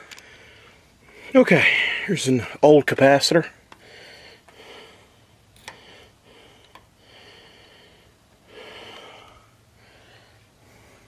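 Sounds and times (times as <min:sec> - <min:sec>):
man breathing heavily: 0:00.0 - 0:02.5, 0:03.5 - 0:11.0.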